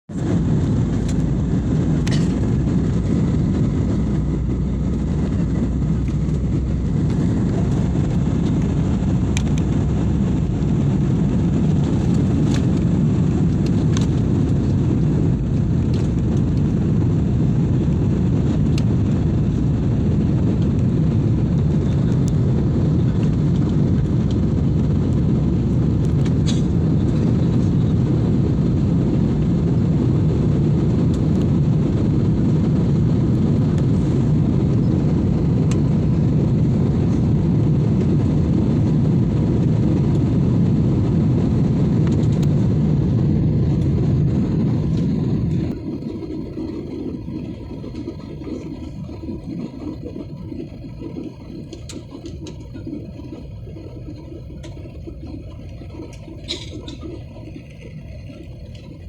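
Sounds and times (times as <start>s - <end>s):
aircraft engine rumble: 0.0s - 59.0s.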